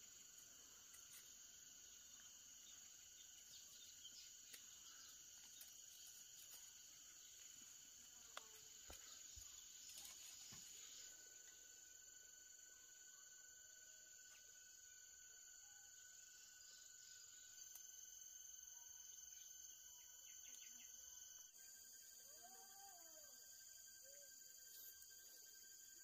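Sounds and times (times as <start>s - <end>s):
insect chorus chirring: 0.0s - 26.0s.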